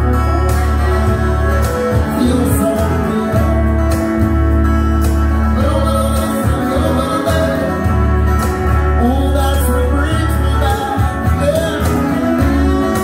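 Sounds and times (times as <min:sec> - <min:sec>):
country-rock band playing: 0:00.0 - 0:13.0
wavering saxophone lead: 0:00.0 - 0:13.0.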